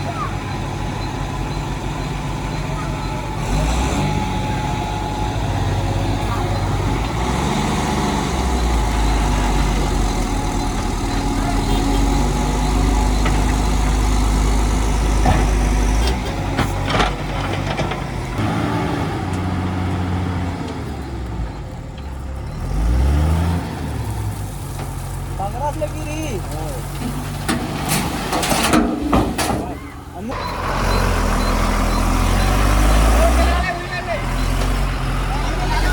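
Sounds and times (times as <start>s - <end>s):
heavy diesel engine revving: 0.0s - 35.9s.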